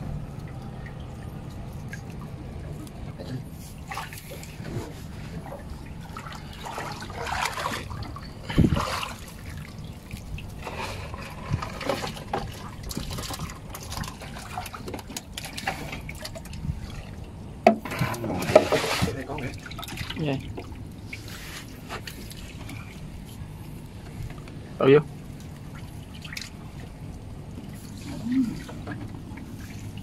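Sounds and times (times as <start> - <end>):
water trickling and splashing: 0.0 - 30.0.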